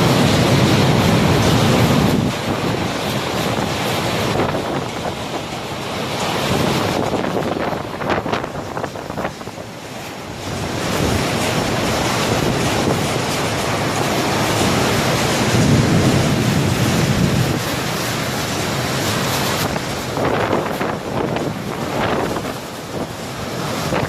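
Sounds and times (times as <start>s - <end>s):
strong wind buffeting microphone: 0.0s - 24.0s
surf rushing: 0.0s - 24.0s.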